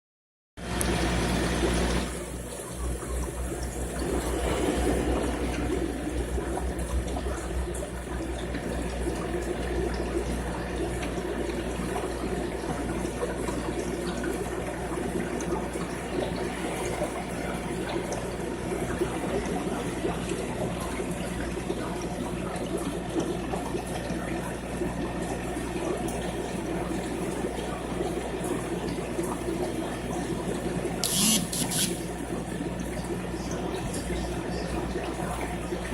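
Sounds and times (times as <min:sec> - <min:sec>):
aquarium water splashing: 0:00.6 - 0:35.9
low pump hum: 0:00.6 - 0:35.9.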